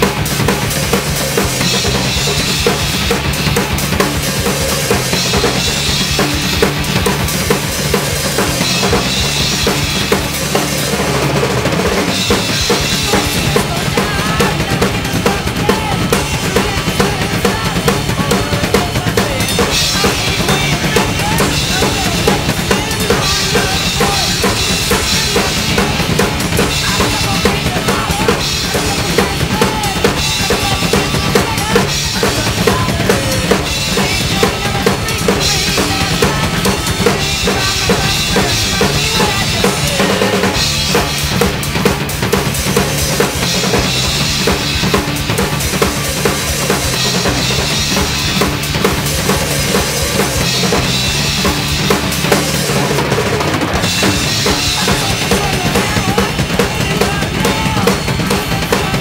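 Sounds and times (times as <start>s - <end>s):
distorted metal guitars: 0.0s - 59.0s
drum kit played fast: 0.0s - 59.0s
rapid double-bass kick drum: 0.0s - 59.0s.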